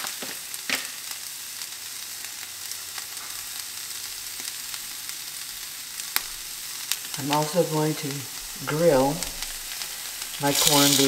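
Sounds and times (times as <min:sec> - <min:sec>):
bread sizzling in butter: 0:00.0 - 0:11.0.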